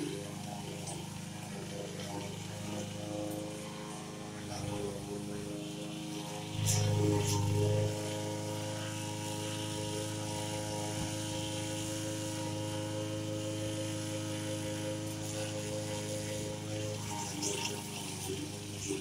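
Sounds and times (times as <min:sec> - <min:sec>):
lawn mower running: 0:00.0 - 0:19.0.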